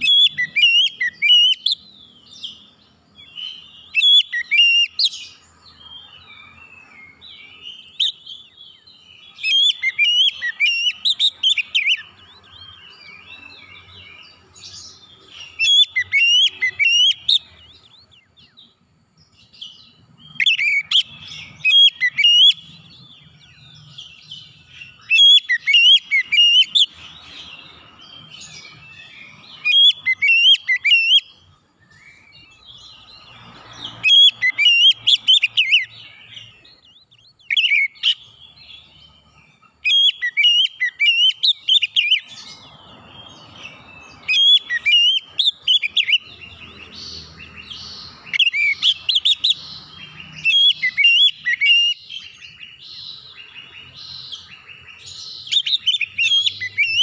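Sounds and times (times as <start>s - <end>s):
bird singing whistled notes: 0.0s - 57.0s.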